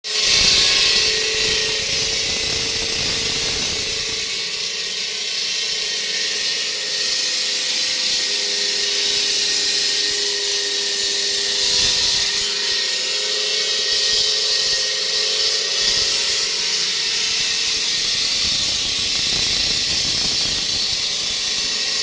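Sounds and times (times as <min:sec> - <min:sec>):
concrete saw running: 0:00.0 - 0:22.0.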